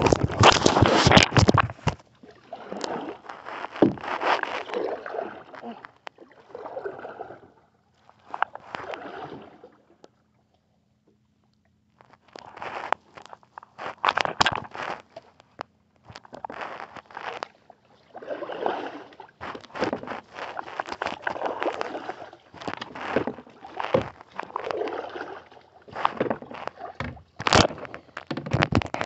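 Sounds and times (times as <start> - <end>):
paddle splashing water: 0.0 - 10.8, 16.2 - 29.0.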